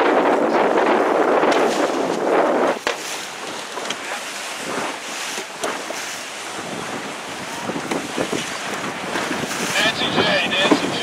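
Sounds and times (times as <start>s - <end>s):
waves slapping: 0.0s - 11.0s
wind buffeting microphone: 0.0s - 11.0s.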